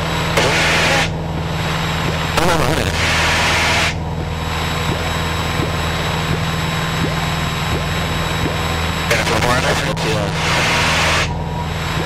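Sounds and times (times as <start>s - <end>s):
airplane engine drone in cockpit: 0.0s - 12.0s.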